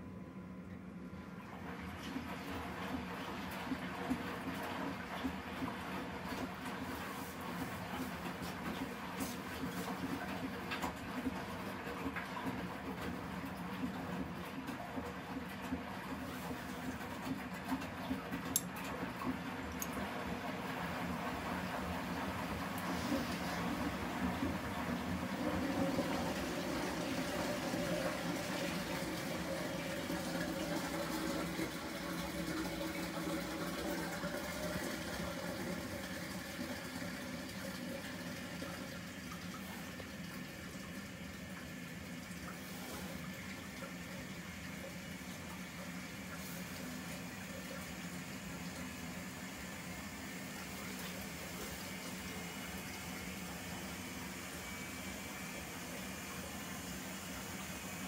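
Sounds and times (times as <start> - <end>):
washing machine filling with water: 0.9 - 58.0.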